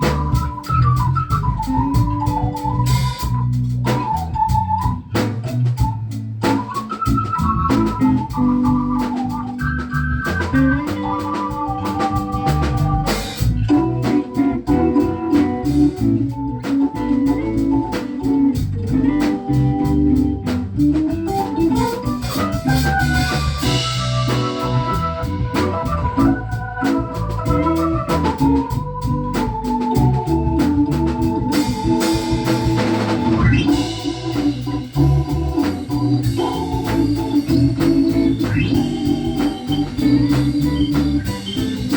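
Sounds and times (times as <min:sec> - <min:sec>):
drums and bass: 0:00.0 - 0:41.9
organ solo: 0:00.0 - 0:41.9.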